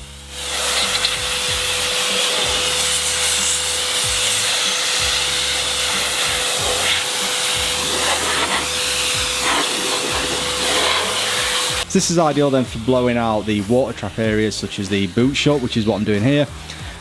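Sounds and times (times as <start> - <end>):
car dryer blowing air: 0.0 - 15.8.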